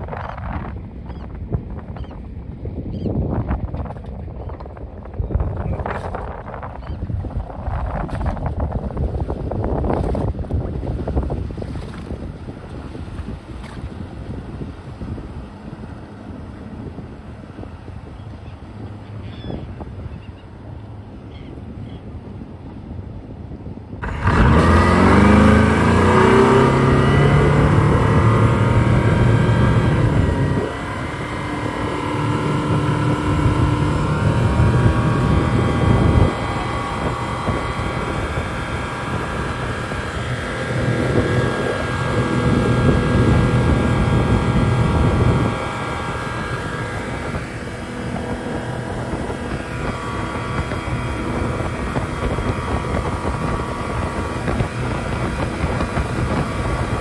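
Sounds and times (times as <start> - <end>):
outboard motor running: 0.1 - 57.0.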